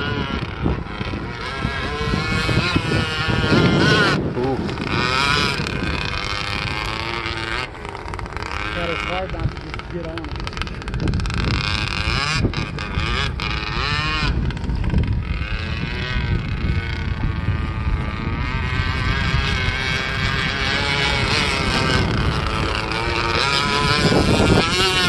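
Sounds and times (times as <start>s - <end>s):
model boat engine whine: 0.0s - 25.0s
wind rumble on microphone: 0.0s - 25.0s.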